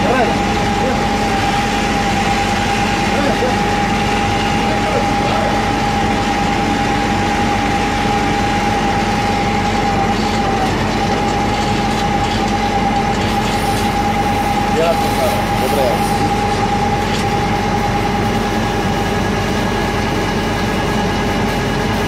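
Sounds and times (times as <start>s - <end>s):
engine hum: 0.0s - 22.0s
pump high whine: 0.0s - 22.0s.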